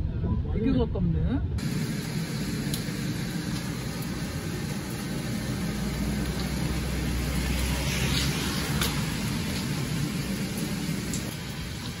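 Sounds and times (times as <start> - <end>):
street noise hiss: 1.6 - 12.0.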